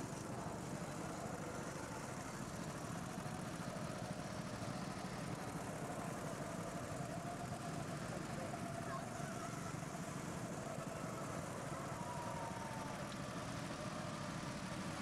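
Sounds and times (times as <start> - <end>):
go-kart engines running: 0.0 - 15.0.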